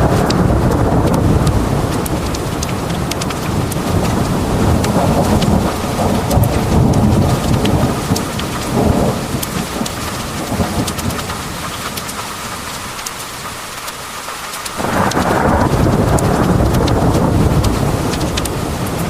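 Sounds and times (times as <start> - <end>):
thunder rumbling: 0.0 - 13.0, 14.7 - 19.0
heavy rain pouring: 0.0 - 19.0
raindrops ticking: 0.0 - 19.0.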